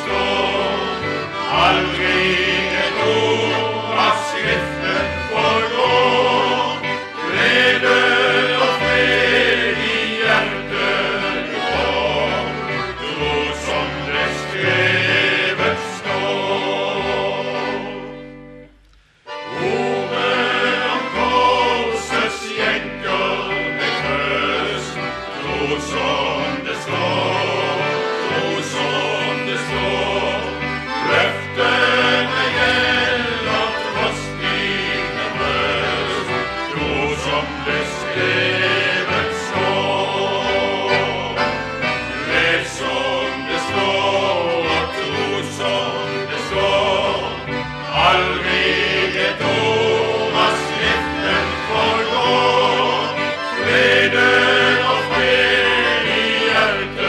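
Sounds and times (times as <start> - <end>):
male vocal group singing: 0.0 - 18.3, 19.5 - 57.0
sustained bass accompaniment: 0.0 - 57.0.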